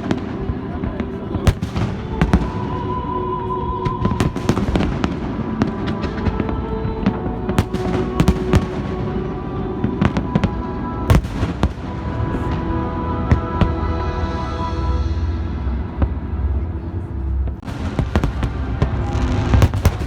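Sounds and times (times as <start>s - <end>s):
fireworks bangs and crackles: 0.0s - 13.8s, 17.4s - 20.0s
music playing: 0.0s - 20.0s.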